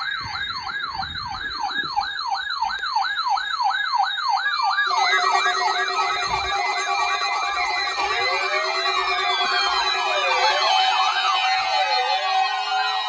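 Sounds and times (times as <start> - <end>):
harsh alarm tone: 0.0 - 13.0
steady alarm tone: 0.0 - 13.0
warbling siren alarm: 0.0 - 13.0.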